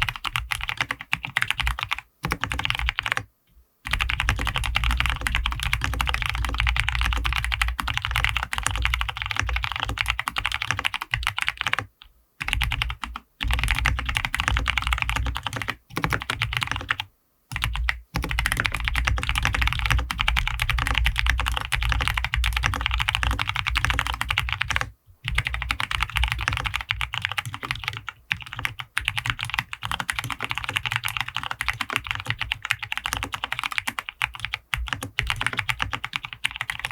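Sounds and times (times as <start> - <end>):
fast typing on mechanical keyboard: 0.0 - 3.3, 3.9 - 36.9.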